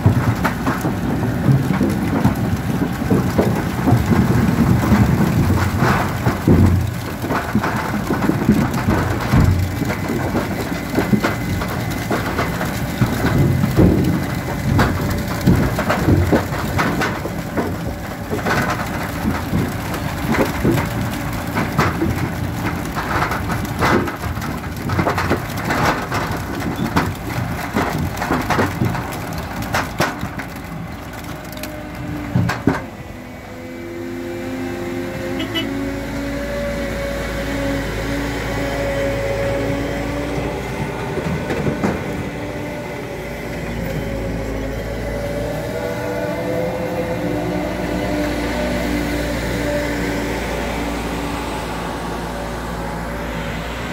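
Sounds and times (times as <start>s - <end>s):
beets clattering into a trailer: 0.0s - 53.9s
harvester engine running: 0.0s - 53.9s.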